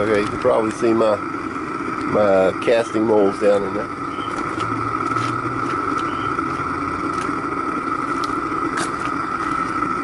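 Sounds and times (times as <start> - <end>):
gas burner running: 0.0 - 10.0.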